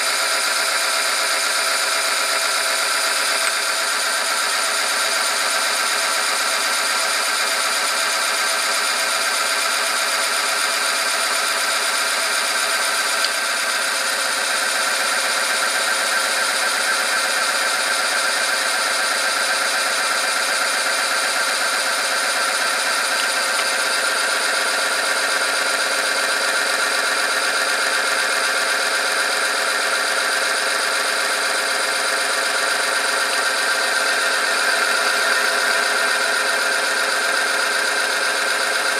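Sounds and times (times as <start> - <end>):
steady mechanical whine of machine: 0.0 - 38.9.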